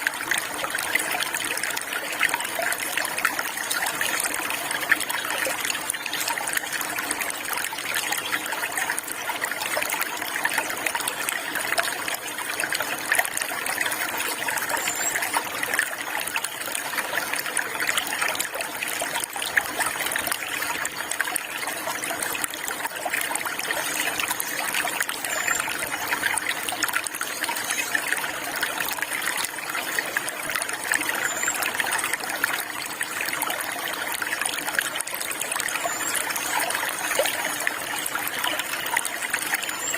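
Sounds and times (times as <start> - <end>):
water flowing over stones: 0.0 - 39.9.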